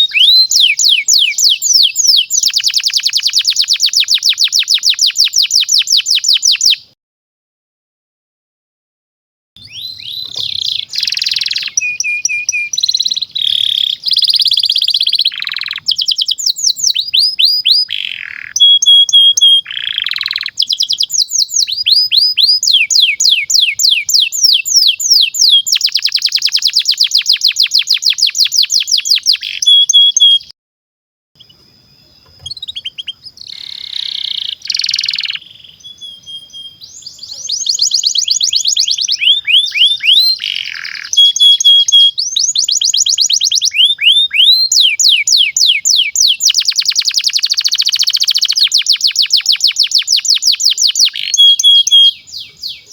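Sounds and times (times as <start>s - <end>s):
canary singing trills: 0.0s - 6.9s, 9.6s - 30.5s, 31.4s - 52.9s.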